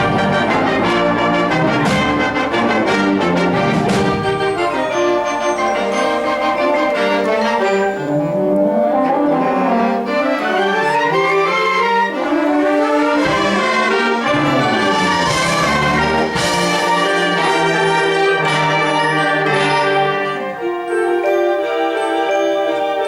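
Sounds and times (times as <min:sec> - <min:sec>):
concert band playing: 0:00.0 - 0:20.8
brass chords: 0:00.0 - 0:23.0.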